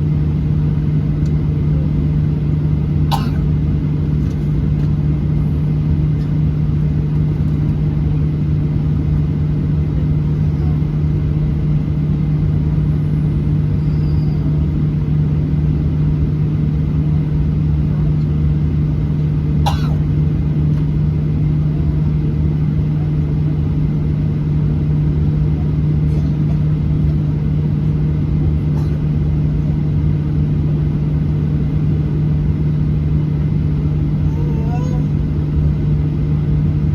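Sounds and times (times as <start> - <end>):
airliner cabin drone: 0.0 - 36.9.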